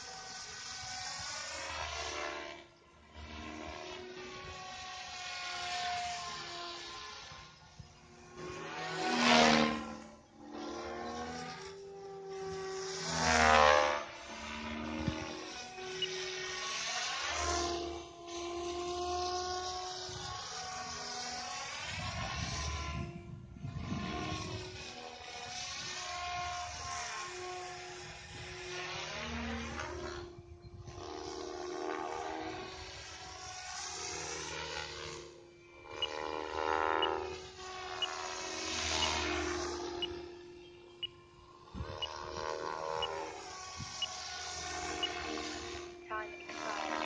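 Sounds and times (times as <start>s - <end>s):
rc helicopter motor whine: 0.0s - 47.0s.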